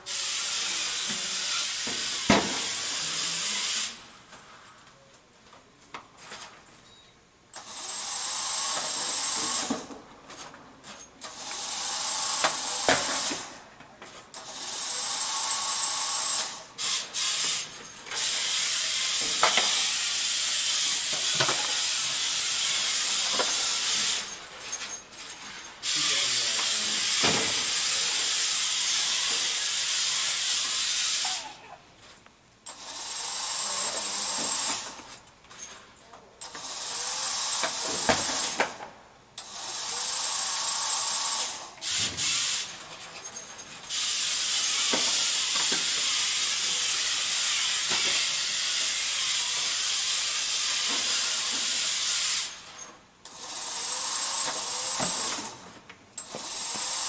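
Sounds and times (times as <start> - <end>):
electric motors whirring: 0.0 - 4.2, 7.6 - 10.0, 11.2 - 31.7, 32.7 - 35.6, 36.4 - 57.0.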